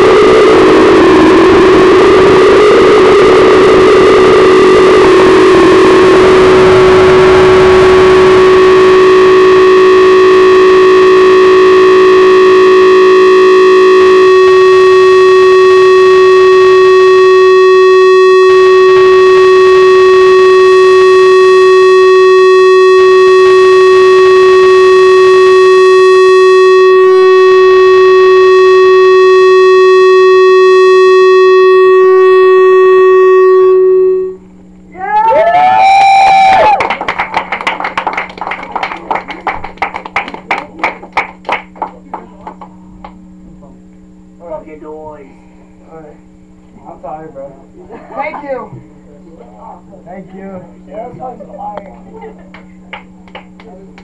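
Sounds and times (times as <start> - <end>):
dense noisy layer: 0.0 - 54.0
distorted electronic drone: 0.0 - 54.0.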